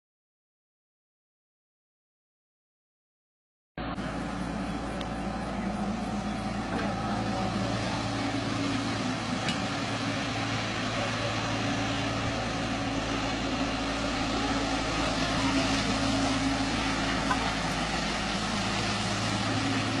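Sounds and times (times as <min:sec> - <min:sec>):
diesel engine running steadily: 0:03.8 - 0:20.0.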